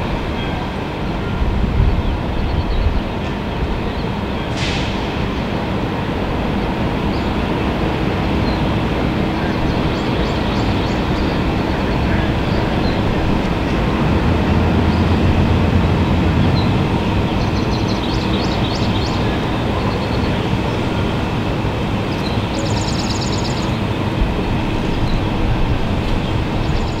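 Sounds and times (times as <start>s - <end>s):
broad outdoor rumble: 0.0s - 27.0s.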